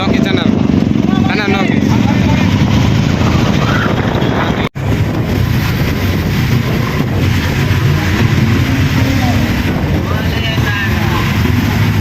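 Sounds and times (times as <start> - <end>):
motorcycle riding: 0.0 - 12.0
wind buffeting microphone: 0.0 - 12.0.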